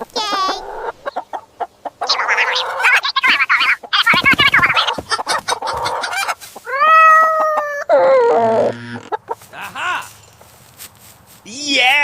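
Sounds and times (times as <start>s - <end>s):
chickens clucking: 0.0s - 11.3s.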